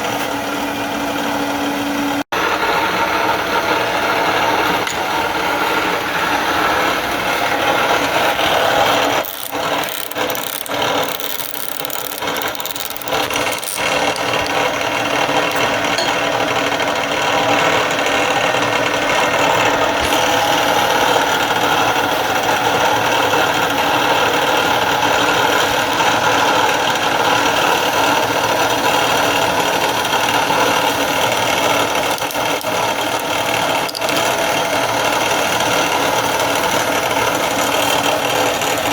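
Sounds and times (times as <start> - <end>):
machine tool running: 2.4 - 38.9.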